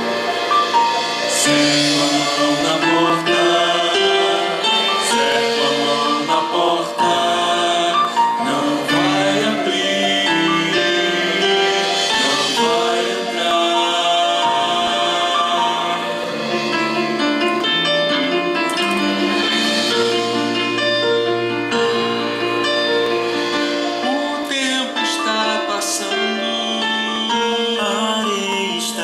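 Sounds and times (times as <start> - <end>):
held instrumental notes: 0.0 - 29.0
voices singing together: 0.0 - 29.0.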